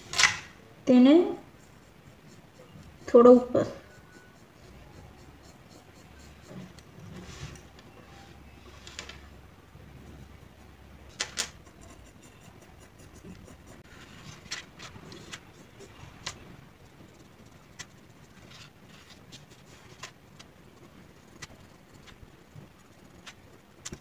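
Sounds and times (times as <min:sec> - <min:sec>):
pencil scratching on paper: 0:01.3 - 0:08.4, 0:10.0 - 0:24.0.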